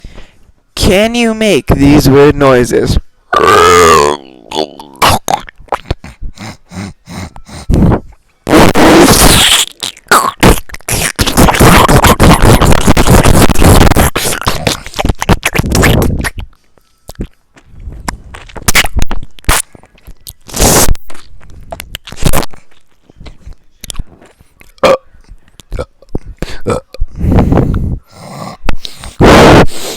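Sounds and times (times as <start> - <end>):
person making mouth noises: 3.3 - 29.9
rasping scrape-like vocal noise: 3.4 - 16.5, 18.0 - 29.9
mouth pops and bursts: 3.4 - 29.9.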